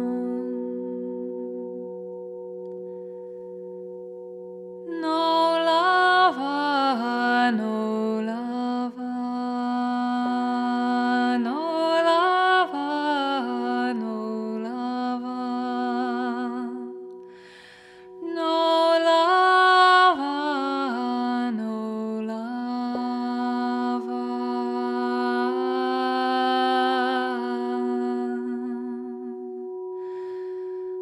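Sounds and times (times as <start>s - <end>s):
woman singing wordless notes: 0.0s - 2.0s, 4.8s - 31.0s
singing bowl ringing: 0.0s - 31.0s.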